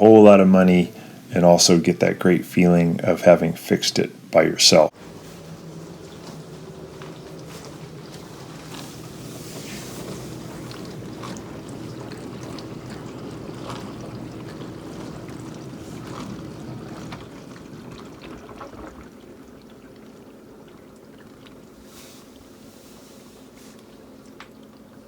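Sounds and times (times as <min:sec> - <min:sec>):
dishwasher pump running: 0:00.0 - 0:25.0
water spraying and splashing: 0:04.9 - 0:25.0.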